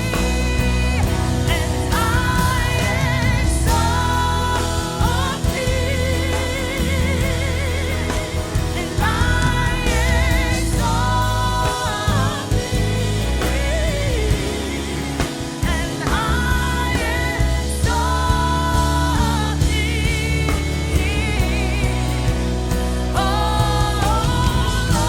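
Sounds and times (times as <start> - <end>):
band with heavy bass: 0.0 - 25.0
singers holding long notes: 0.0 - 25.0.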